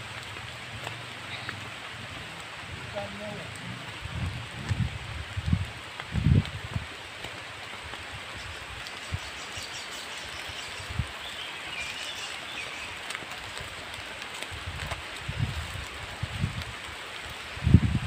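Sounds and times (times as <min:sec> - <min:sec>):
steady forest hiss: 0:00.0 - 0:18.0.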